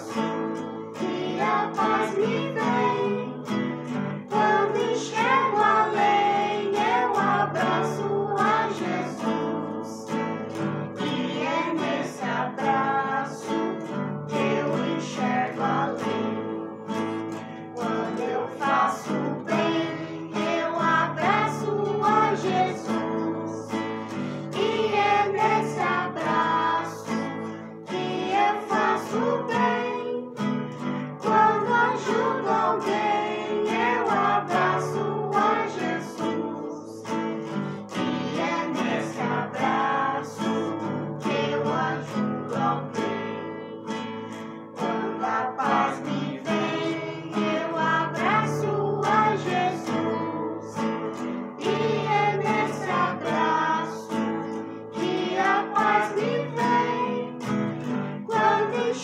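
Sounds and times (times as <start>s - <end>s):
classical guitars strummed: 0.0s - 59.0s
girls and woman singing: 0.0s - 59.0s.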